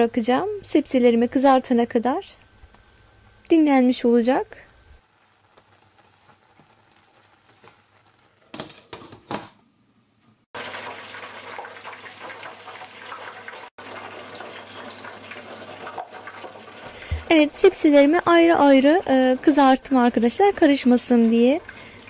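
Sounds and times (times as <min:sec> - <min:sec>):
eggplant sizzling in oil: 0:00.0 - 0:09.0, 0:10.6 - 0:22.0.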